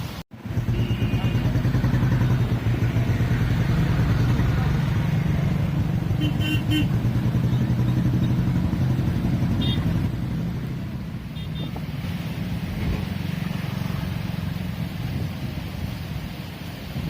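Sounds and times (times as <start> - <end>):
vehicle engine running: 0.4 - 15.2.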